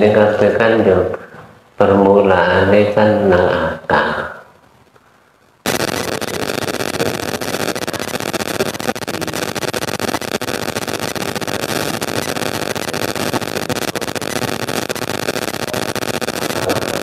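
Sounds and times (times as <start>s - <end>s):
loud crackling static: 0.0s - 17.0s.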